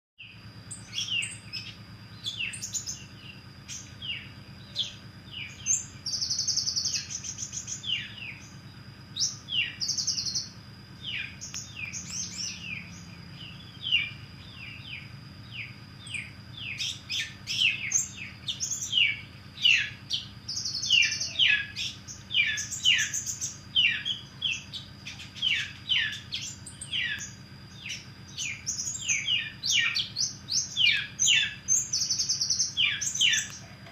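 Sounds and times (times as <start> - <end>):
bird singing with chirps and trills: 0.2 - 33.9
low hum: 0.2 - 33.9
thin steady high tone: 0.2 - 33.9.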